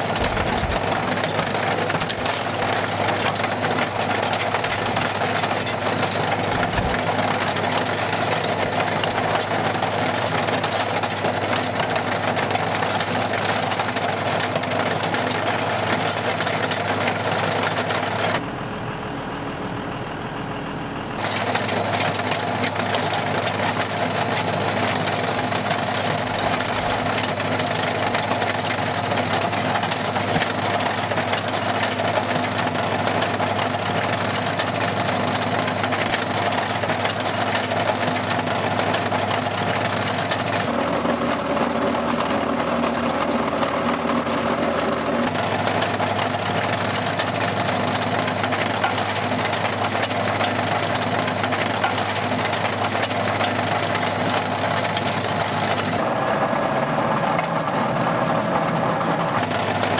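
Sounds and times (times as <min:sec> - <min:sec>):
digging chain cutting soil: 0:00.0 - 0:18.4, 0:21.2 - 0:56.0
tractor engine under load: 0:00.0 - 0:59.9.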